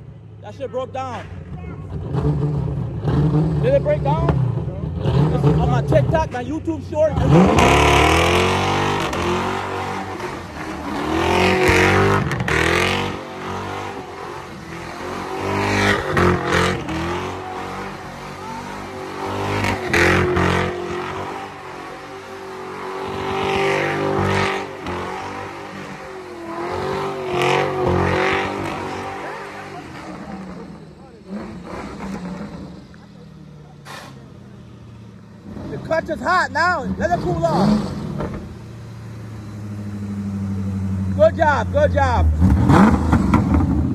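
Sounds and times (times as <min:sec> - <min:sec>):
car engine revving: 0:00.0 - 0:43.9
tires spinning: 0:00.9 - 0:43.9.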